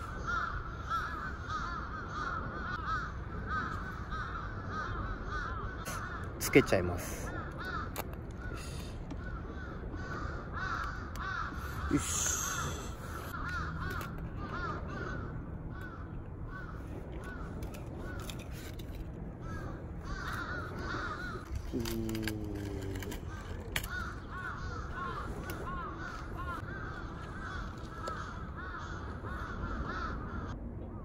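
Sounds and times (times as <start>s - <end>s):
crows cawing: 0.0s - 30.6s.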